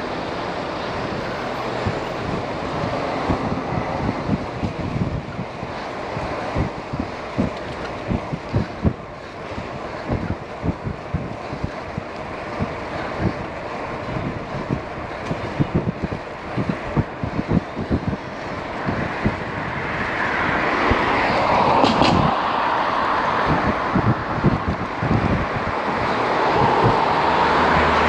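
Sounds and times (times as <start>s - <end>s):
motor vehicle passing: 0.0s - 28.0s
wind buffeting microphone: 0.0s - 28.0s.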